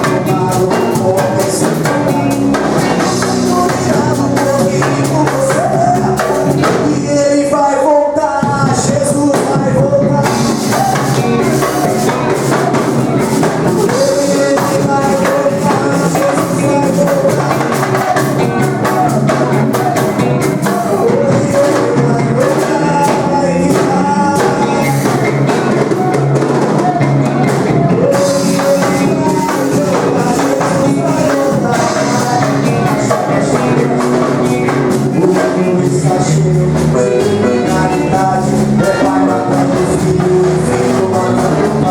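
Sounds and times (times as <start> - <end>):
drum kit beat: 0.0 - 7.2, 8.4 - 41.9
christian band music: 0.0 - 41.9.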